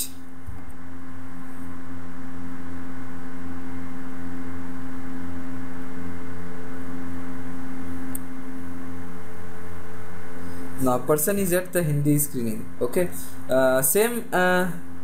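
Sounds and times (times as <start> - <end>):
electrical hum with low tones: 0.0 - 15.0.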